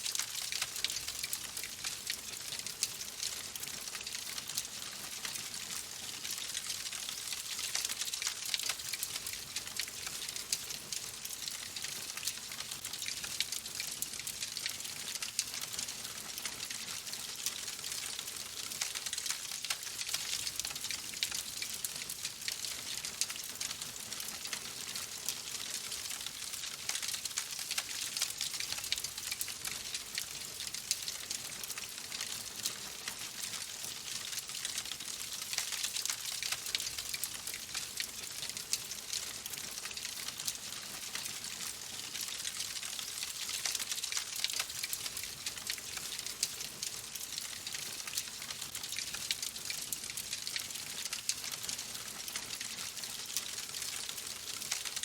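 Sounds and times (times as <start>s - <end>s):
wood fire crackling: 0.1s - 13.4s, 17.1s - 50.3s.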